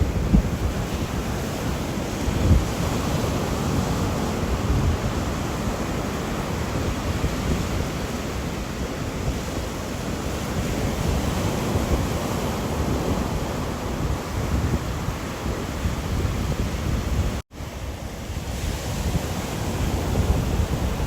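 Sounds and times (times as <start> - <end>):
wind and rain rushing: 0.0 - 21.0.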